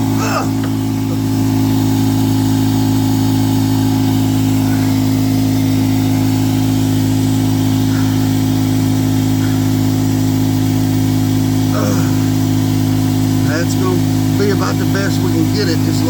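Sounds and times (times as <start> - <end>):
air compressor humming: 0.0 - 16.0.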